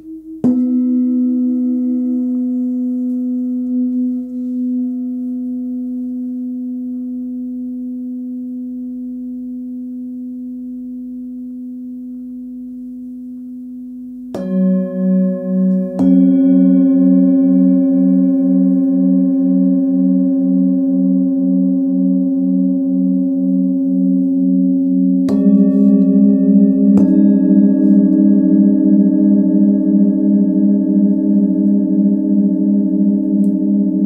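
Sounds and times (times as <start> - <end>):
lower-pitched bowl pulsing tone: 0.0 - 34.0
singing bowl ringing: 0.0 - 34.0.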